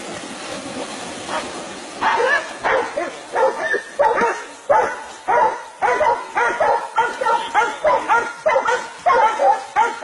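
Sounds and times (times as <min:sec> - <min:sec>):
dogs barking: 0:01.3 - 0:10.0.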